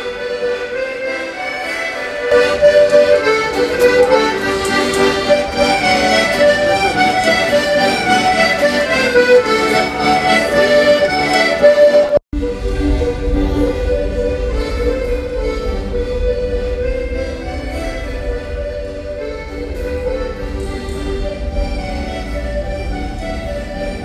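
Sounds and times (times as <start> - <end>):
accordions playing a tune: 0.0 - 24.0.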